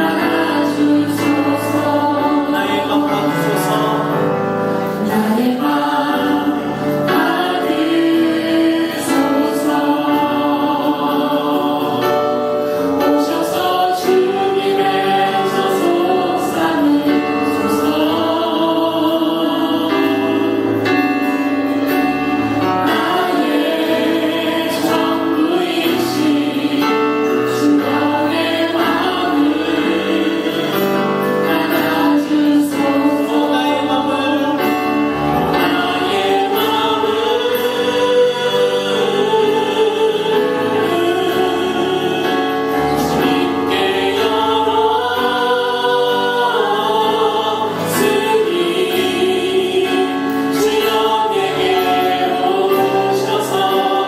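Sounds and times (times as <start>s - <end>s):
choir singing sustained notes: 0.0s - 54.0s
instrumental accompaniment: 0.0s - 54.0s.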